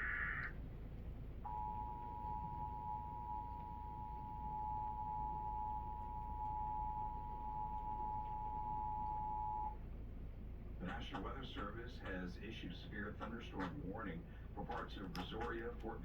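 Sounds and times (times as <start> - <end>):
low hum: 0.0 - 13.5.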